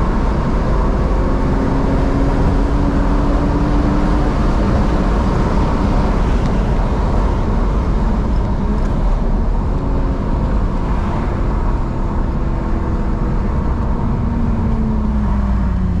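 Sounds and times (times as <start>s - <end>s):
car engine drone: 0.0s - 16.0s
road rumble: 0.0s - 16.0s.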